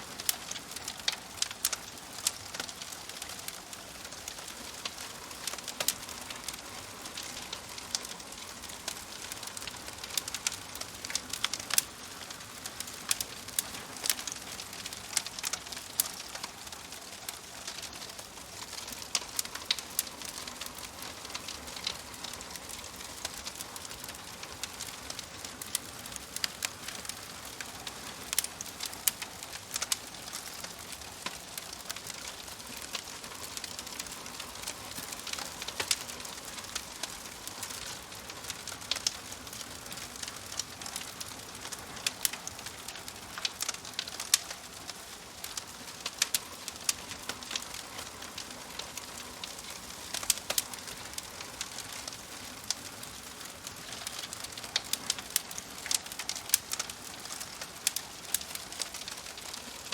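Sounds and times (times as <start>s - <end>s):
soft hiss of fire: 0.0s - 59.9s
fire pops and snaps: 0.2s - 59.9s.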